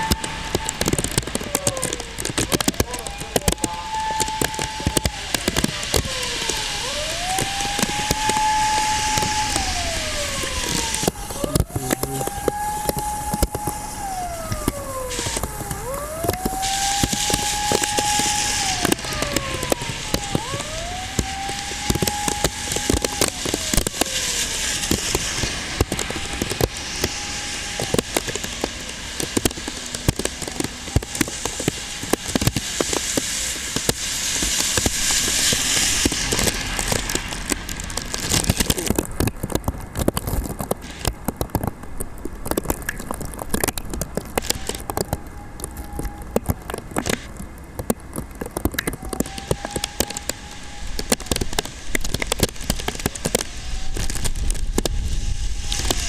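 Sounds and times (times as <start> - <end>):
second fainter siren wail: 0.0 - 39.0, 44.4 - 47.1, 48.9 - 56.0
wailing siren: 0.0 - 41.7, 44.2 - 56.0
rushing storm noise with crackles: 0.0 - 56.0.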